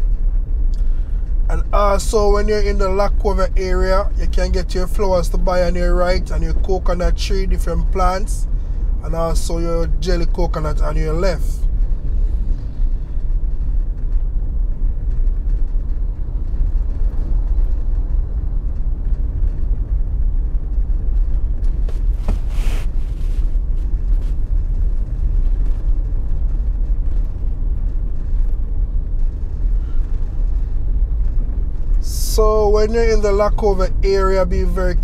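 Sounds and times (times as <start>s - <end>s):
car engine and road noise: 0.0s - 35.0s.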